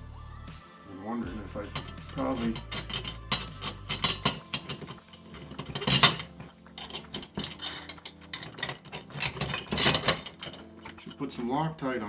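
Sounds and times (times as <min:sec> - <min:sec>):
metal clank: 0:01.6 - 0:11.4
tools clinking on metal: 0:01.6 - 0:11.4.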